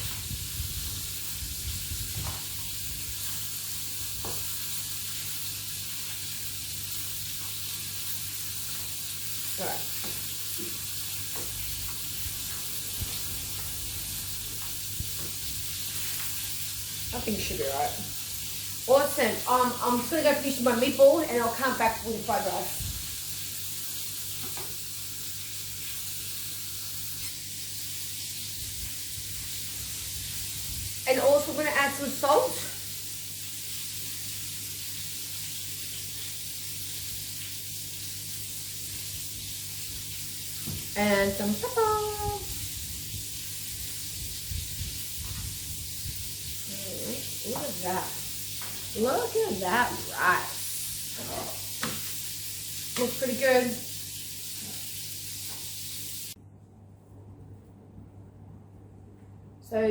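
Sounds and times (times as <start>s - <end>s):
meatballs sizzling in oil: 0.0s - 56.4s.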